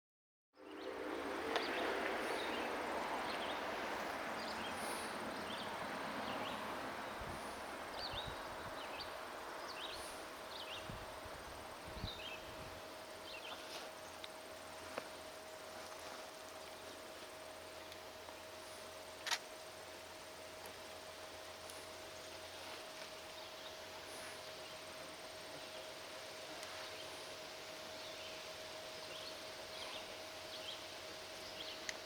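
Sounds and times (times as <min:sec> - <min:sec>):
steady rushing hiss: 0:00.6 - 0:32.0.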